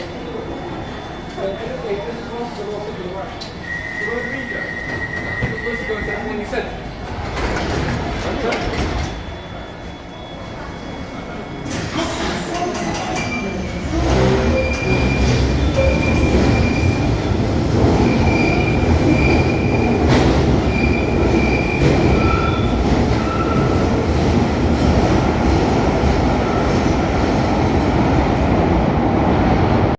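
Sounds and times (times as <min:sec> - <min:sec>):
train rumbling: 0:04.7 - 0:10.0, 0:10.6 - 0:29.9.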